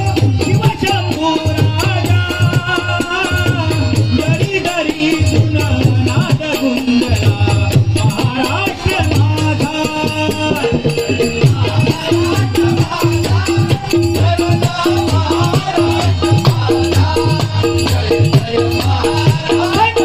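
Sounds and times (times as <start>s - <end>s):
jingling rattling percussion: 0.0s - 20.0s
voices singing: 0.0s - 20.0s.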